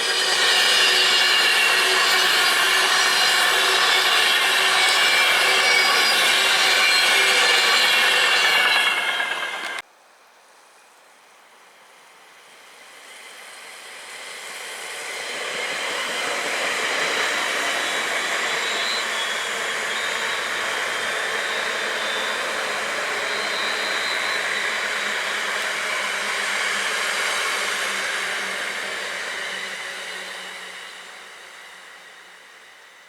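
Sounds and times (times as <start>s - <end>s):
train passing at speed: 0.0s - 9.8s, 12.4s - 33.0s.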